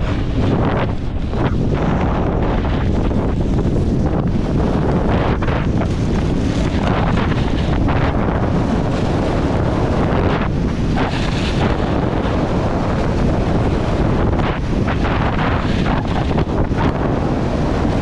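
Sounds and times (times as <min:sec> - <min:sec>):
snowboard edge scraping snow: 0:00.0 - 0:17.9
wind buffeting microphone: 0:00.0 - 0:18.0.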